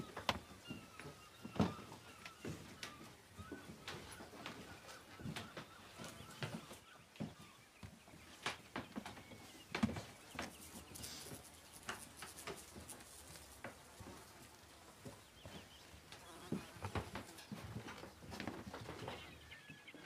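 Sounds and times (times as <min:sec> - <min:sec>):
footsteps: 0:00.0 - 0:19.4.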